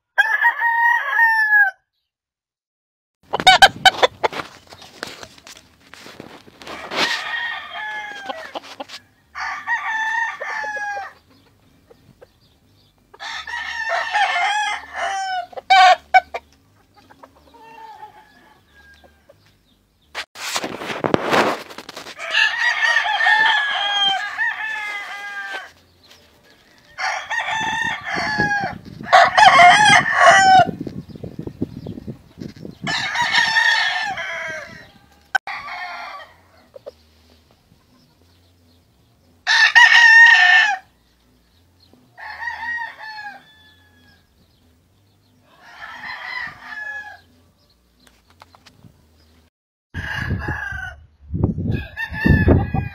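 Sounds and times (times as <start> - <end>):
roosters crowing: 0.1 - 1.8, 3.3 - 19.9, 21.3 - 37.4, 38.0 - 48.0, 50.0 - 52.9.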